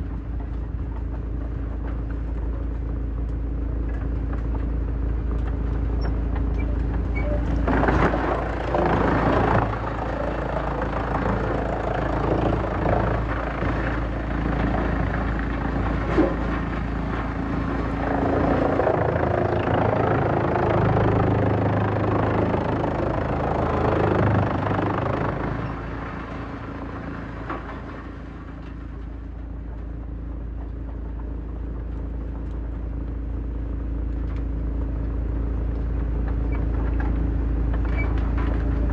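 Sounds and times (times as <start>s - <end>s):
wood grinding in shredder: 0.0s - 38.9s
wood shredder running: 0.0s - 38.9s.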